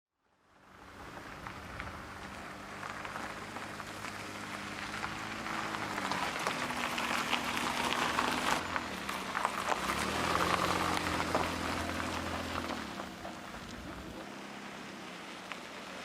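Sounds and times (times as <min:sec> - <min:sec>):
rain pattering on a surface: 0:00.9 - 0:13.9, 0:15.1 - 0:16.0.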